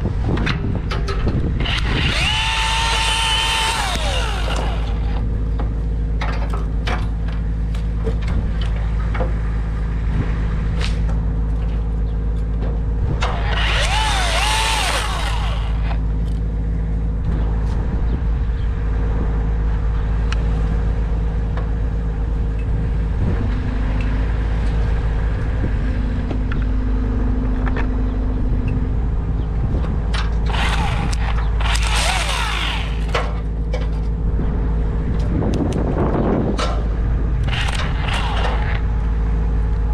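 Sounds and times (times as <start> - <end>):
large engine running: 0.0 - 39.9.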